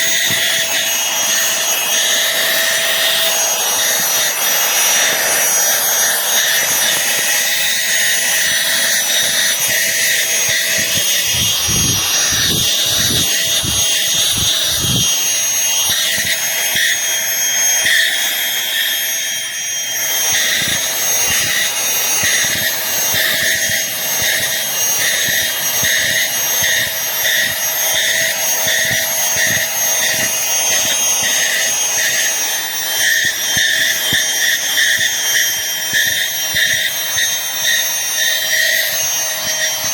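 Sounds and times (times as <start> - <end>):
handheld vacuum cleaner whine: 0.0 - 39.9.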